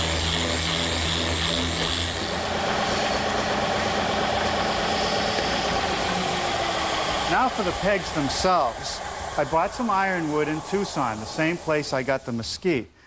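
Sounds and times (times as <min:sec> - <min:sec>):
bench sander with wood: 0:00.0 - 0:12.6
orbital sander sanding wood: 0:00.0 - 0:12.8.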